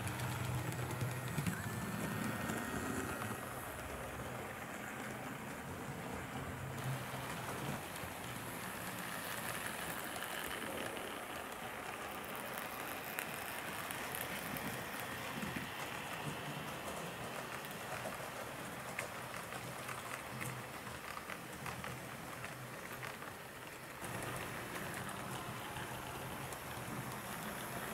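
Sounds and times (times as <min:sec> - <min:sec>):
model train wheels rattling: 0:00.0 - 0:27.9.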